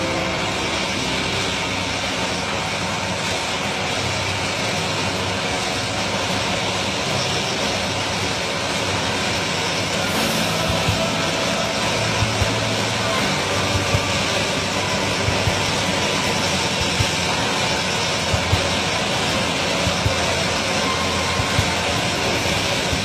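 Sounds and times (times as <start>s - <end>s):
jet engines taxiing: 0.0s - 23.0s.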